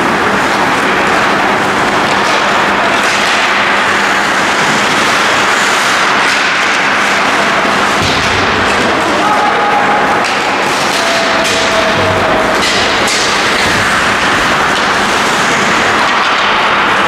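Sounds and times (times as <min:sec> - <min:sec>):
ice rink din: 0:00.0 - 0:17.0.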